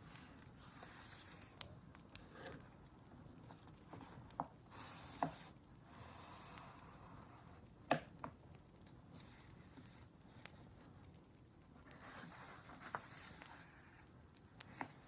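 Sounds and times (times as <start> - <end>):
crackling wood fire: 0.0 - 15.0.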